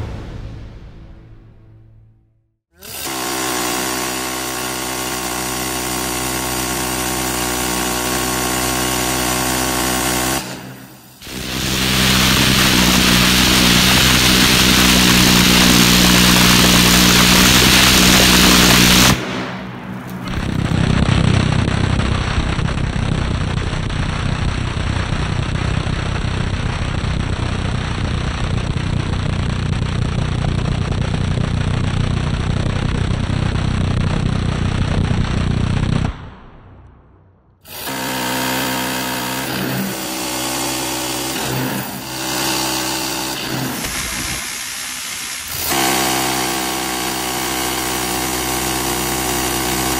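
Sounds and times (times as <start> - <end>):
minigun firing: 2.8 - 49.9.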